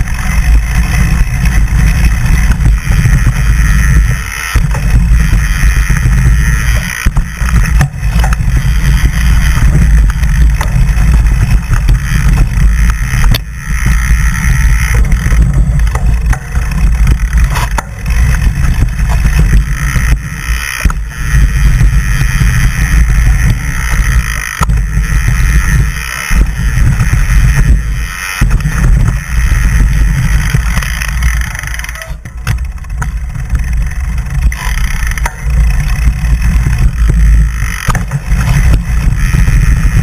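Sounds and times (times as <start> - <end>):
bike knocking and rattling: 0.0 - 40.0
wind buffeting microphone: 0.0 - 40.0.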